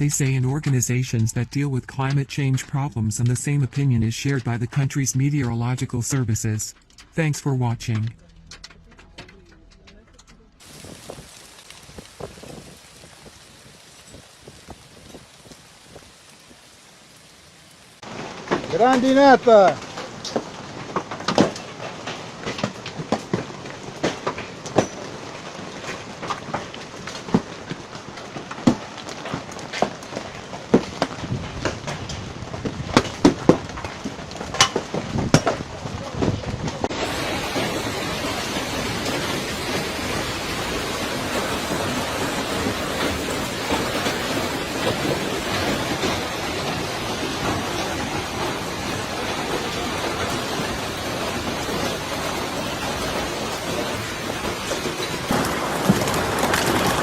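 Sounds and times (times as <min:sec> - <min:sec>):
hailstones striking hard surfaces: 0:10.6 - 0:57.0.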